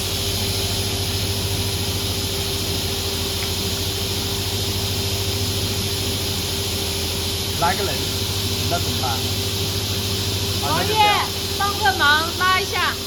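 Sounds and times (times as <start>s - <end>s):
workshop machinery hum: 0.0s - 13.0s.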